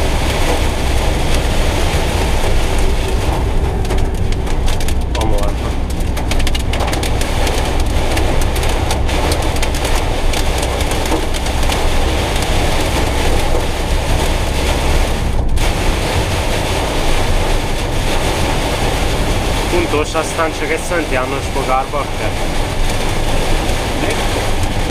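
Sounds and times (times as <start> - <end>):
rain hitting van roof: 0.0 - 24.9
van engine and road drone: 0.0 - 24.9.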